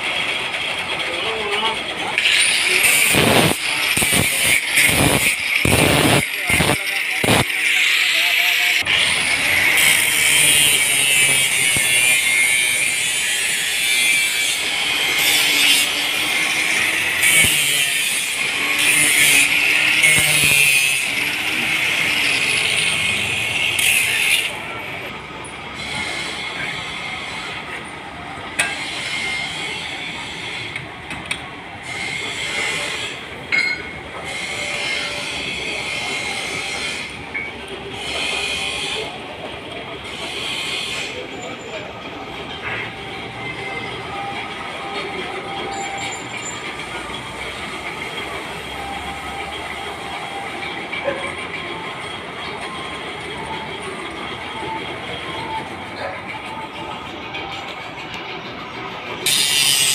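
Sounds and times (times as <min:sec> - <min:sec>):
angle grinder whirring: 0:02.1 - 0:41.8, 0:42.5 - 0:59.9.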